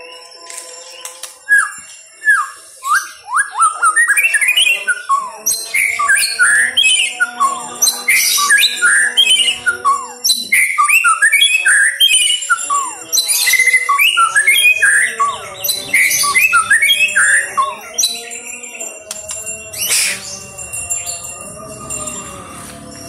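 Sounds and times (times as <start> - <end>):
bird singing whistles: 0.0 - 20.4
bird chattering notes: 2.4 - 21.2.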